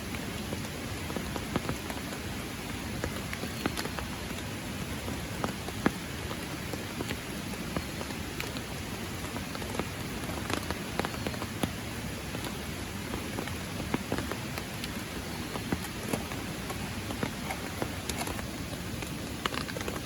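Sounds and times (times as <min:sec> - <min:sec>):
raindrops striking close by: 0:00.0 - 0:20.0
steady rain hiss: 0:00.0 - 0:20.0.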